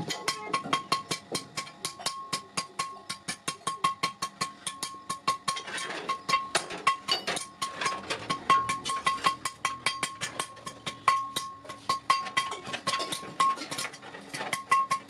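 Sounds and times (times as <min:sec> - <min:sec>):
hammer striking metal anvil: 0:00.0 - 0:15.0.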